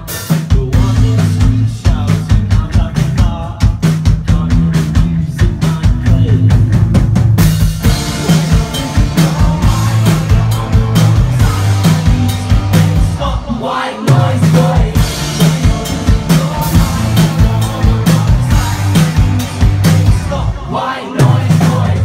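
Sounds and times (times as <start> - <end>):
drum kit beating: 0.0 - 22.0
live band playing: 0.0 - 22.0.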